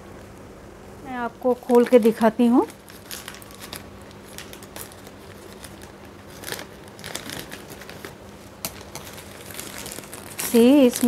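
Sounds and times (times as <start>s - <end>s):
plastic wrapper crinkling: 1.4s - 11.0s.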